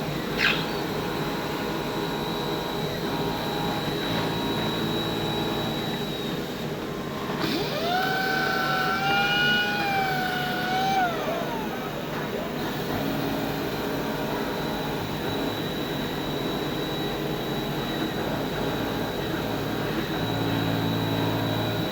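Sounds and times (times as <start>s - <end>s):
cutting machine mechanical hum: 0.0s - 21.9s
motor whine rising in pitch: 0.0s - 21.9s.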